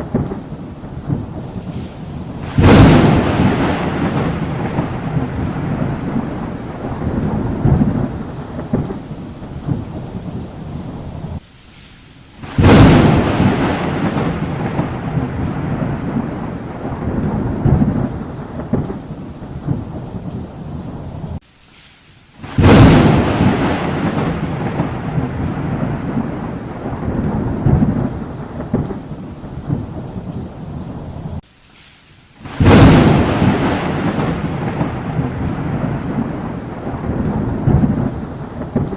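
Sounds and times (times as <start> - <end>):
thunder cracking and rumbling: 0.0 - 11.4, 12.4 - 21.4, 22.4 - 31.4, 32.4 - 38.9
steady rain: 0.0 - 38.9.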